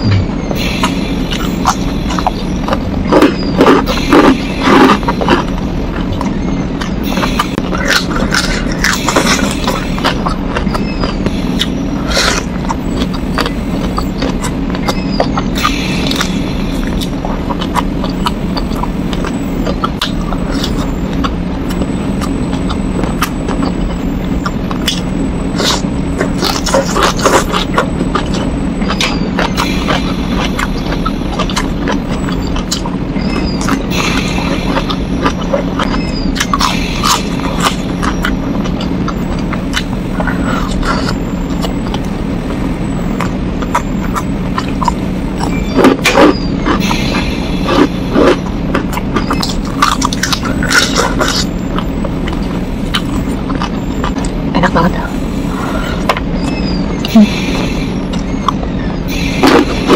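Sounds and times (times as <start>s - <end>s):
steady low hum: 0.0s - 59.9s
mouth clicks and lip smacks: 0.8s - 42.6s, 43.2s - 54.8s.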